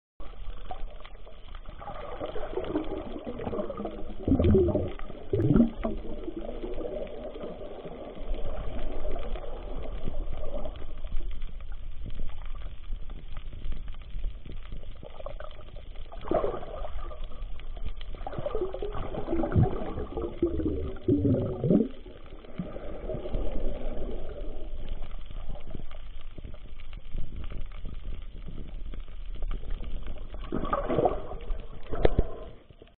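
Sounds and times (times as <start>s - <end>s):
bubbling gurgles: 0.2s - 32.9s
underwater low rumble: 0.2s - 32.9s.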